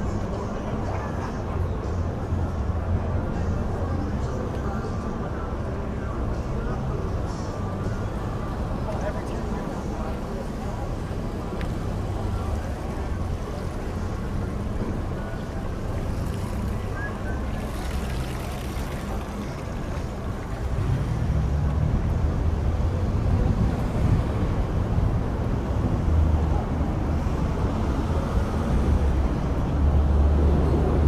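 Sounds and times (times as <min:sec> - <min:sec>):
low traffic rumble: 0:00.0 - 0:31.0.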